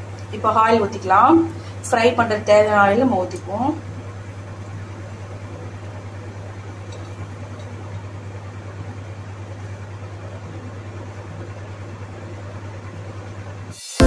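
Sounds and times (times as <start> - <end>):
cooktop hum with fan whirr: 0.0 - 13.8.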